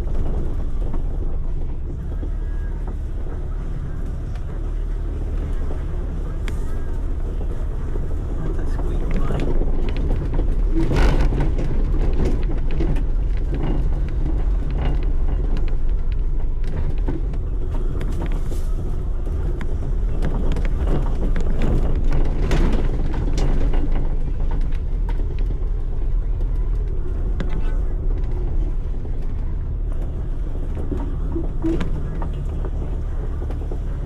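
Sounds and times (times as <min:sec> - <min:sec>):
off-road vehicle engine rumbling: 0:00.0 - 0:34.0
vehicle knocks and rattles: 0:00.0 - 0:34.0.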